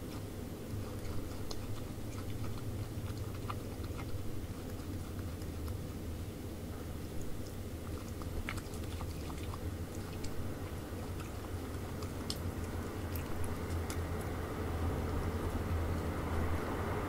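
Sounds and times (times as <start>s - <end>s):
possum chewing crisp bites: 0.0s - 16.8s
steady low hum: 0.0s - 17.0s.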